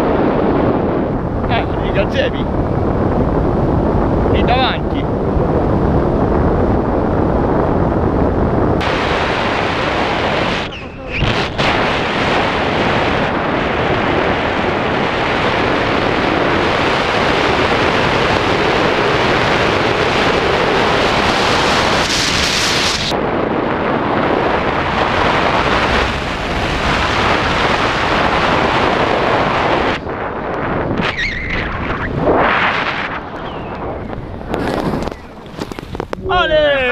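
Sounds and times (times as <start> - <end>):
wind roaring over microphone: 0.0 - 36.9.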